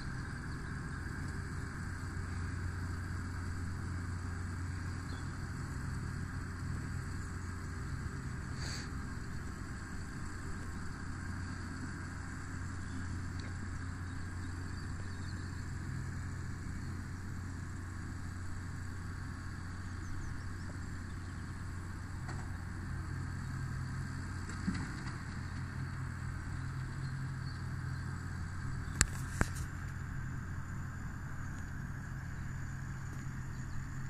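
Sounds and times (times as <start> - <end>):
distant tractor engine drone: 0.0 - 34.0.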